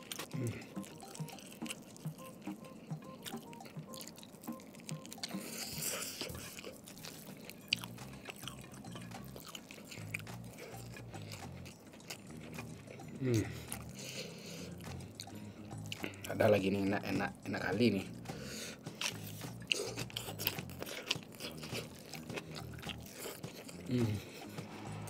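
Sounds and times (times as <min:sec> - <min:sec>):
person chewing with wet smacks: 0:00.0 - 0:24.8.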